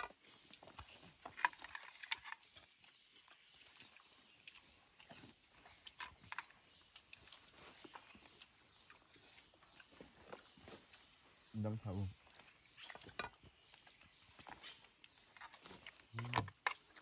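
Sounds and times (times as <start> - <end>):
people eating by hand: 0.0 - 17.0.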